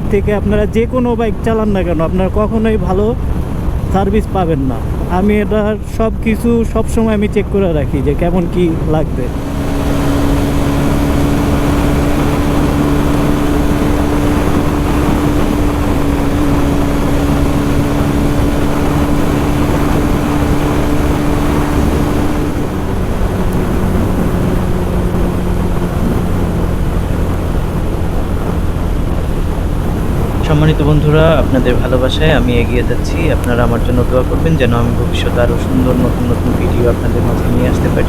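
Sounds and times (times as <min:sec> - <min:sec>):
wind and road noise: 0:00.0 - 0:38.0
motorcycle engine running: 0:06.4 - 0:38.0.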